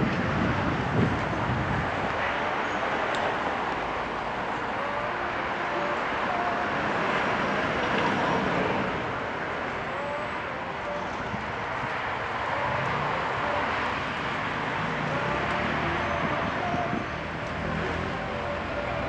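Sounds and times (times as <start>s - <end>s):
city traffic: 0.0s - 19.0s.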